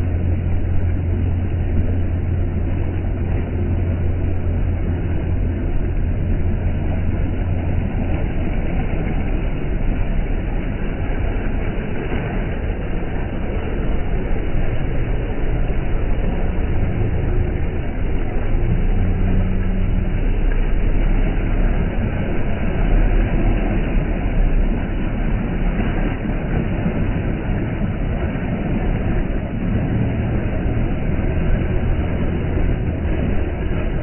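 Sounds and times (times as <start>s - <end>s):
deep low hum: 0.0s - 34.0s
vehicle rumbling: 0.0s - 34.0s.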